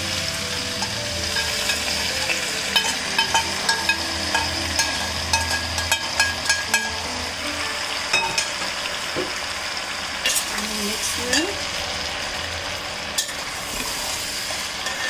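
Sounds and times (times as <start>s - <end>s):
hot ghee sizzling: 0.0s - 15.0s.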